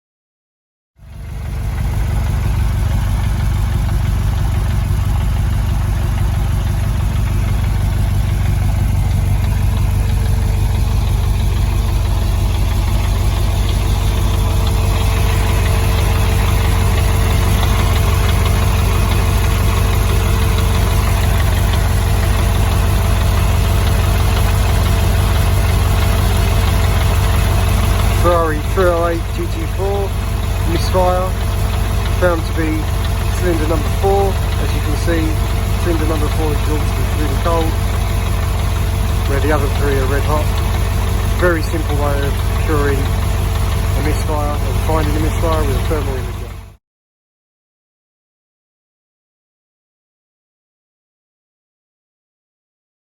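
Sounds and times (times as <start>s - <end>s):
car engine idling with misfire: 1.0s - 46.8s.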